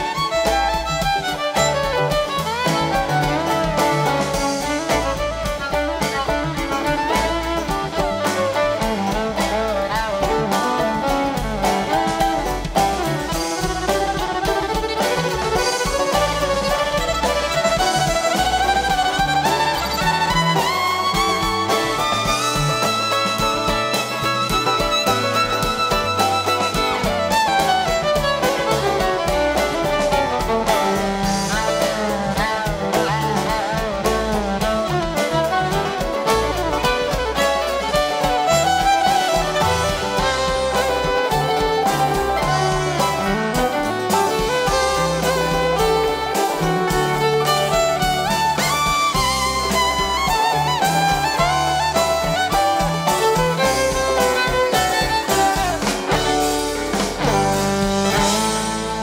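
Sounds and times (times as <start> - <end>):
acoustic guitar: 0.0 - 59.0
bass: 0.0 - 59.0
drum kit: 0.0 - 59.0
fiddle: 0.0 - 59.0
plucked strings: 0.0 - 59.0.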